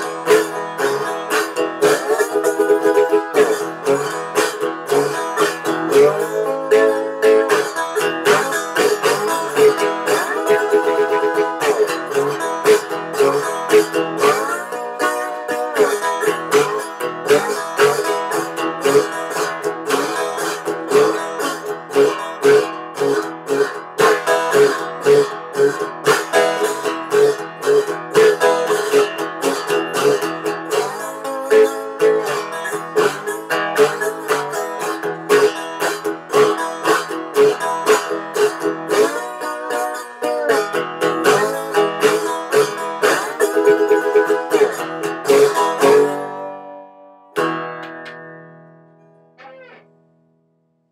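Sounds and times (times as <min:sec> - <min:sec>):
blues resonator guitar: 0:00.0 - 0:49.8.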